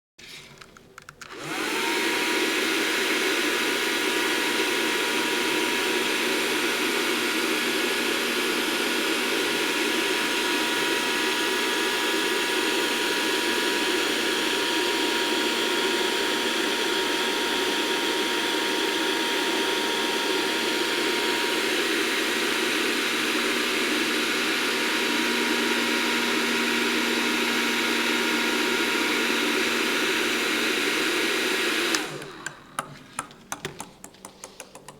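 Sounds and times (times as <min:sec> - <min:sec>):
hair dryer whine and rushing air: 0:01.2 - 0:33.4.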